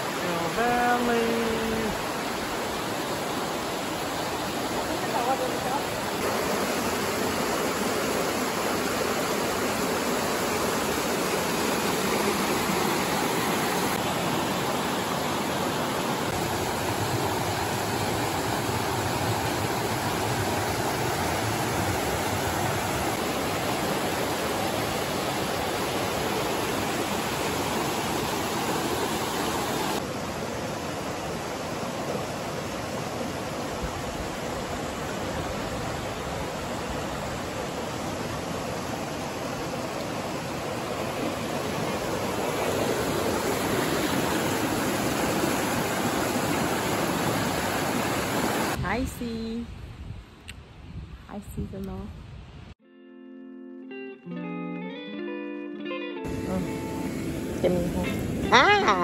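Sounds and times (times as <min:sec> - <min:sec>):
stream rushing over boulders: 0:00.0 - 0:48.8, 0:56.3 - 0:59.0.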